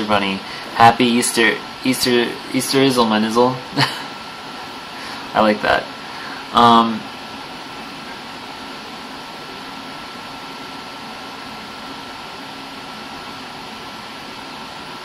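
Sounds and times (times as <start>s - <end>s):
fan hiss: 0.0s - 15.0s.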